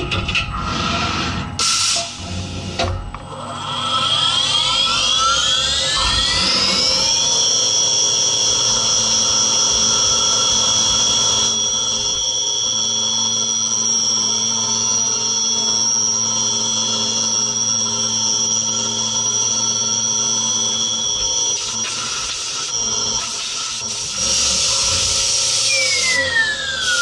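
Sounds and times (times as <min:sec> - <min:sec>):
machine spindle whine: 0:00.0 - 0:27.0.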